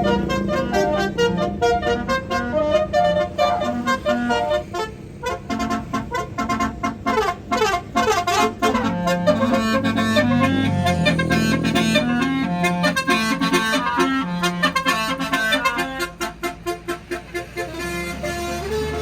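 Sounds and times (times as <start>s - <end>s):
multi-tone bus air horn melody: 0.0s - 19.0s.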